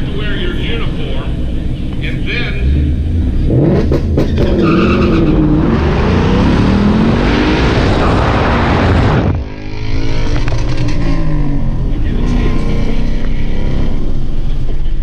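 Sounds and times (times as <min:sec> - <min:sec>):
car engine at full throttle: 0:00.0 - 0:15.0.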